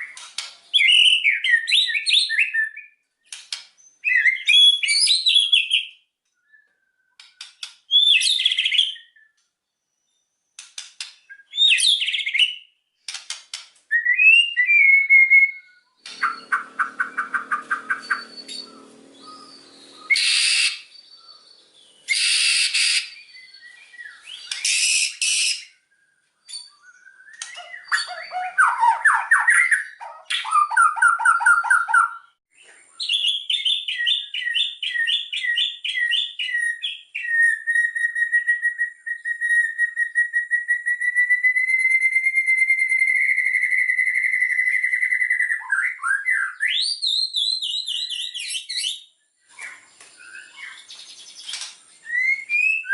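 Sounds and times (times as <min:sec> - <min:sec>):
bird singing and trilling: 0:00.0 - 0:12.8, 0:13.9 - 0:52.9.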